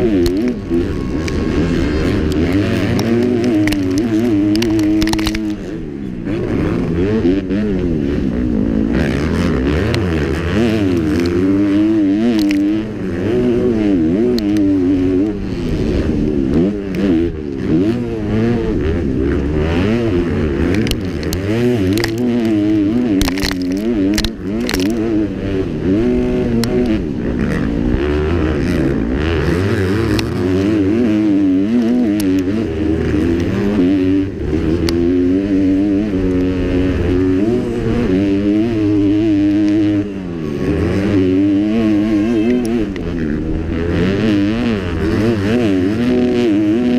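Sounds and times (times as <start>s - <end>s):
motocross engine revving: 0.0s - 46.9s.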